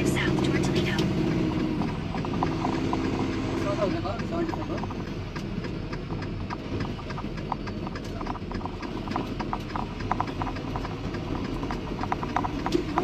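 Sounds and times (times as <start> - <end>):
light clicks and ticks: 0.0 - 13.0
truck cab rumble: 0.0 - 13.0.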